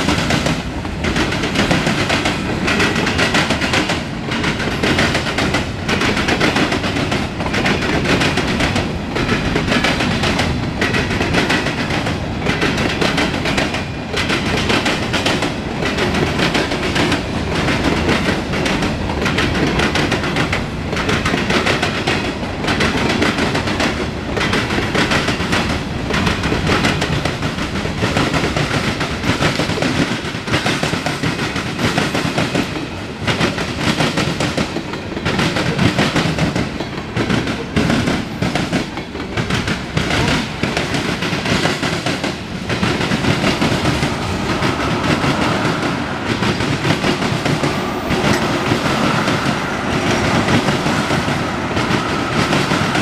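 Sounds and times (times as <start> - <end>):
clickety-clack over rail joints: 0.0 - 53.0
steel wheels rumbling on rail: 0.0 - 53.0.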